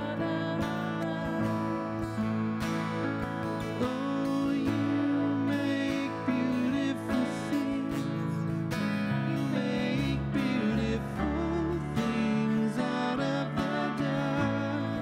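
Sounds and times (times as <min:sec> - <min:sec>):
piano: 0:00.0 - 0:15.0
strummed acoustic guitar: 0:00.0 - 0:15.0.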